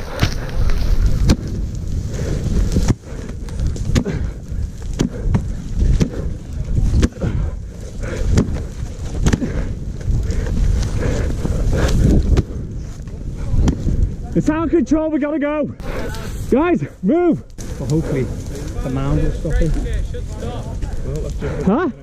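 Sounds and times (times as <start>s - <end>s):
wind buffeting microphone: 0.0s - 15.1s, 15.7s - 22.0s.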